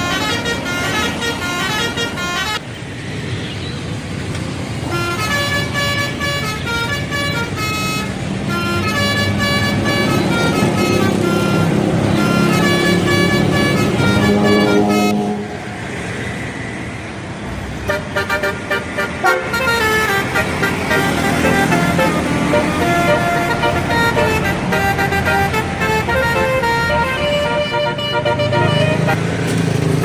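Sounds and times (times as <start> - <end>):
bus horn playing musical notes: 0.0 - 2.6, 4.8 - 15.9, 17.8 - 30.0
bus engine low noise: 0.0 - 30.0.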